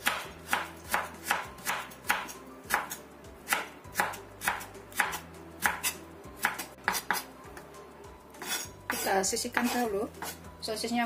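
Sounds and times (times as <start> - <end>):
knife chopping carrot on board: 0.0 - 7.3, 8.4 - 10.5.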